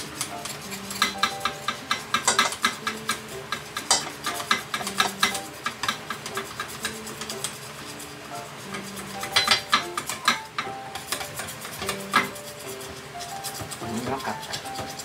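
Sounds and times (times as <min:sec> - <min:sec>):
light background music: 0:00.0 - 0:15.0
utensil stirring in a bowl: 0:00.0 - 0:15.0.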